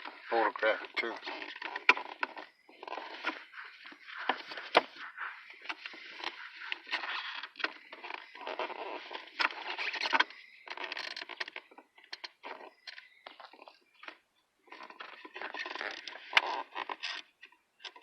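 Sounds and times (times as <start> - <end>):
rustling and scraping of parts: 0.0 - 18.0.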